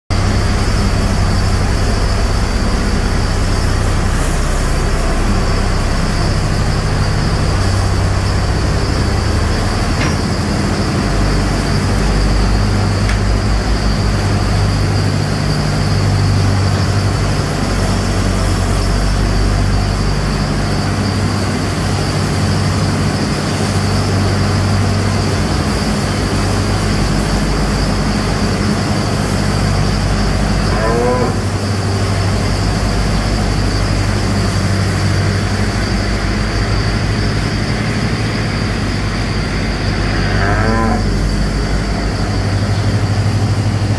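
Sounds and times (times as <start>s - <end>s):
tractor engine drone: 0.1s - 43.9s.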